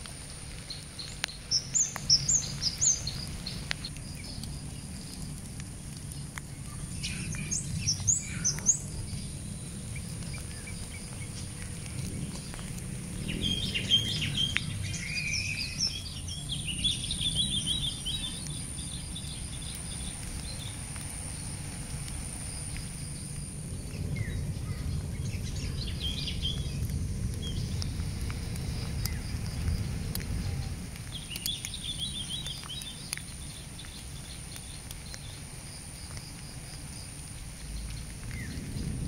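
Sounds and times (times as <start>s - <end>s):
birds chirping: 0.0s - 21.6s, 22.4s - 39.0s
low steady rumble: 0.0s - 35.6s.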